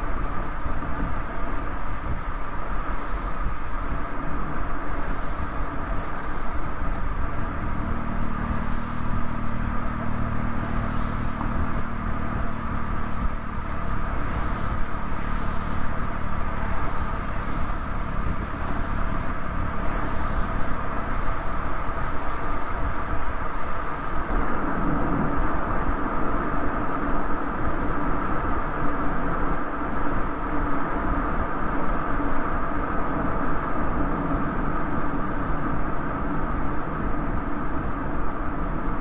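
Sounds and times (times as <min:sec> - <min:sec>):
low engine-like hum: 0:00.0 - 0:39.0
tyre and road noise: 0:00.0 - 0:39.0.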